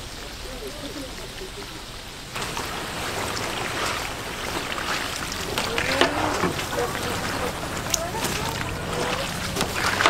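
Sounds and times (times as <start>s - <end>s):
faint voices: 0.0s - 10.0s
food sizzling: 0.0s - 10.0s.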